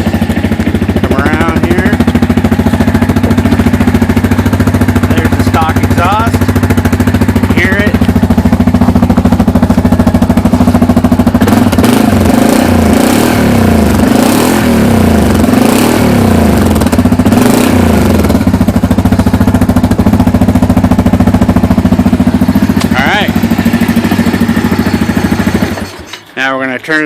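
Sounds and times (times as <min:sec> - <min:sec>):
atv engine idling and revving: 0:00.0 - 0:26.1.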